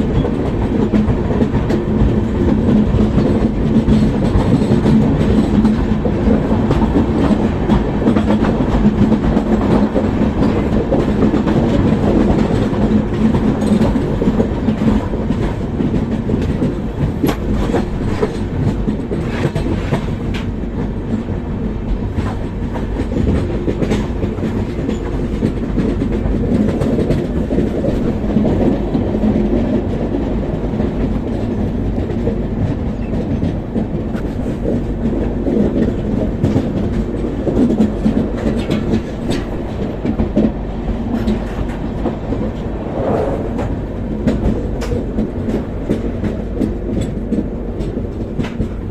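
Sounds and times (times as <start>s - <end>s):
wheels clacking over rail joints: 0.0s - 42.9s, 43.6s - 48.9s
train coaches rumbling: 0.0s - 48.9s.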